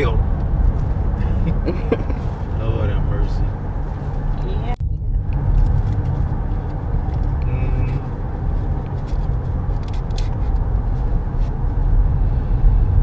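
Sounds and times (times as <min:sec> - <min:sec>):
road and engine noise in cabin: 0:00.0 - 0:13.0.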